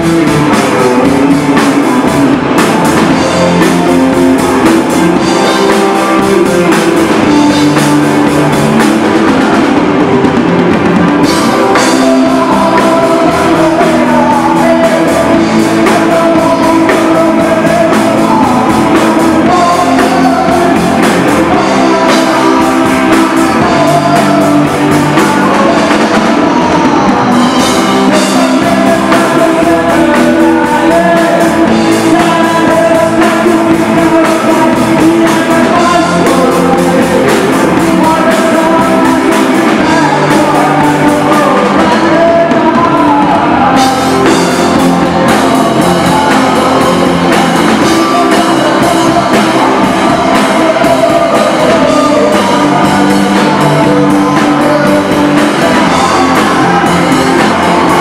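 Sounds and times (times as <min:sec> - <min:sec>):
distorted electric guitars: 0:00.0 - 0:58.0
live rock band playing: 0:00.0 - 0:58.0
person singing: 0:00.0 - 0:58.0.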